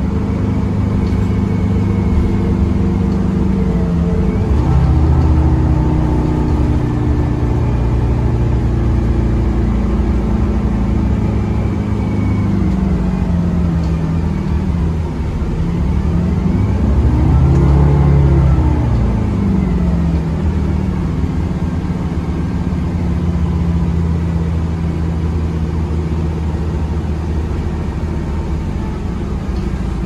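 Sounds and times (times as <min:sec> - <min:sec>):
bus engine running: 0:00.0 - 0:30.0
road rumble: 0:00.0 - 0:30.0.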